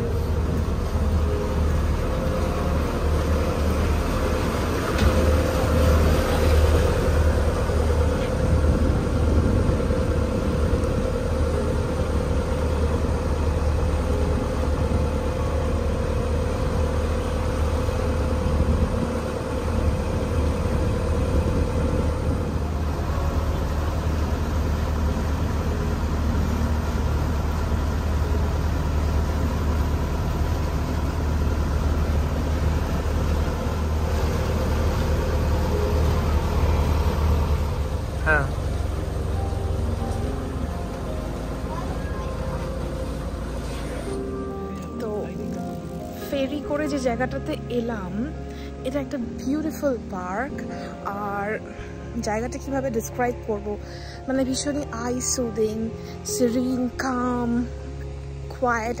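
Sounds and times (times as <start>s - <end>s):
ferry engine humming: 0.0s - 59.0s
water and wind rushing: 0.0s - 59.0s.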